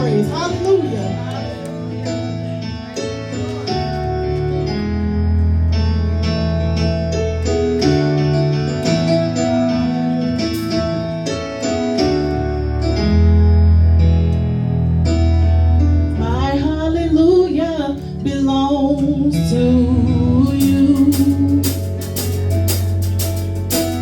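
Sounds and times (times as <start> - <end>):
keyboard chords with deep bass: 0.0 - 24.0.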